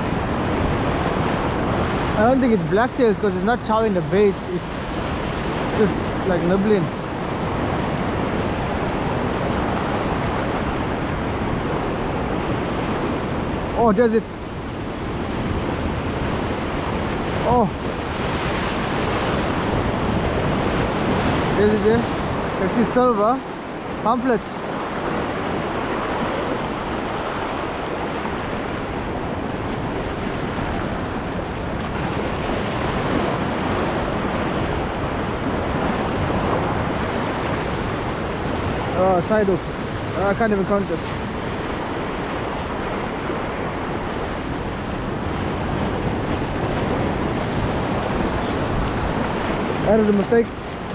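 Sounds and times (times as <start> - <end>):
ocean surf breaking on shore: 0.0 - 50.9.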